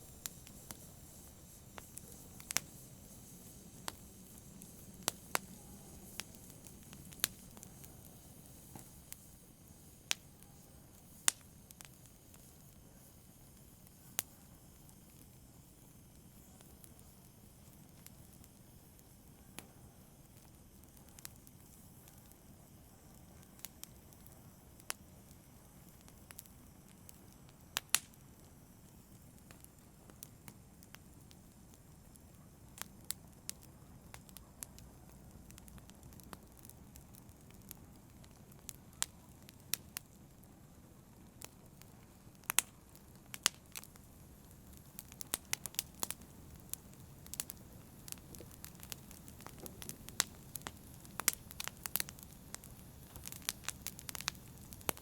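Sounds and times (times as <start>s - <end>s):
fire crackles and pops: 0.0s - 55.0s
wood fire burning: 0.0s - 55.0s.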